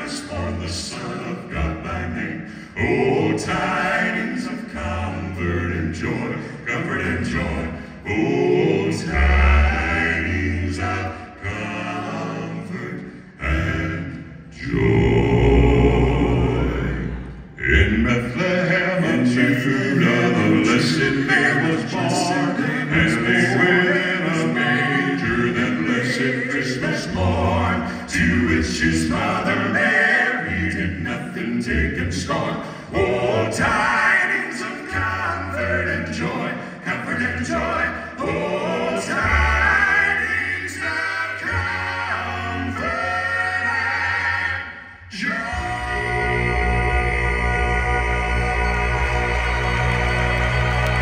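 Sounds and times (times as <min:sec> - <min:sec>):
male quartet singing in harmony: 0:00.0 - 0:51.0.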